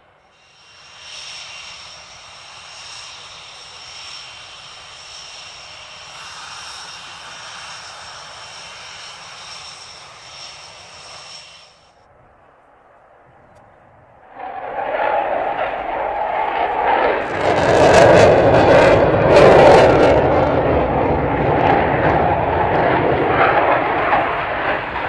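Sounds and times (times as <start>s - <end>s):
distant jet engines rushing: 0.0s - 25.0s.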